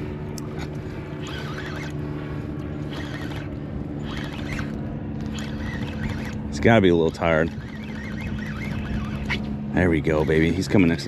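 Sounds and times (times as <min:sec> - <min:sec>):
boat motor humming: 0:00.0 - 0:11.0
water noise: 0:00.0 - 0:11.0
wind: 0:00.0 - 0:11.0.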